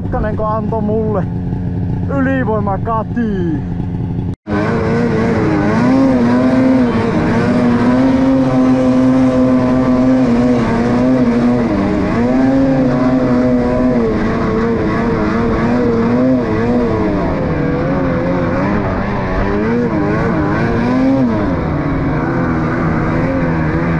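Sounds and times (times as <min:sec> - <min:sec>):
snowmobile engine revving: 0:00.0 - 0:23.9.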